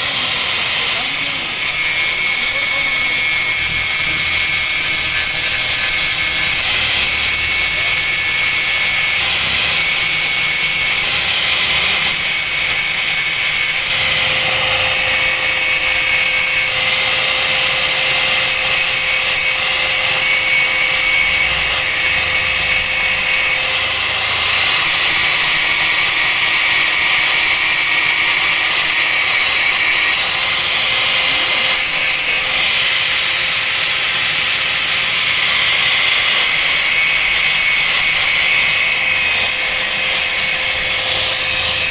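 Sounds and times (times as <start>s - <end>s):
small power tool grinding: 0.0s - 41.9s.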